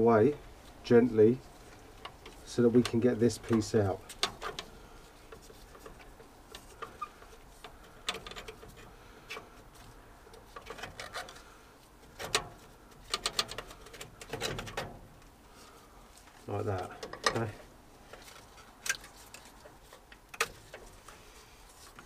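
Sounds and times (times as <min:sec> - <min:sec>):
boiler parts clicking and rattling: 0:01.5 - 0:22.0.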